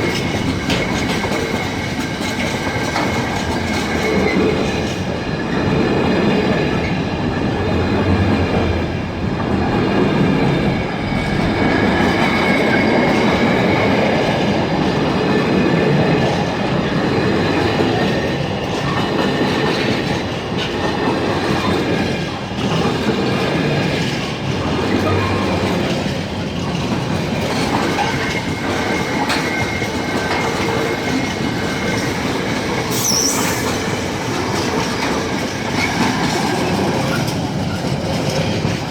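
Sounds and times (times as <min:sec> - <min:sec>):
train wheels squealing on rails: 0:00.0 - 0:38.9.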